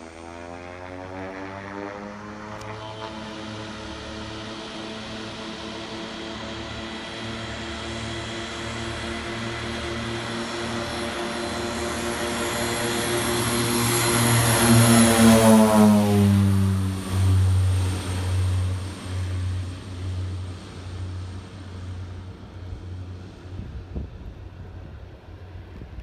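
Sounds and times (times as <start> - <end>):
turboprop propeller drone: 0.0 - 26.0.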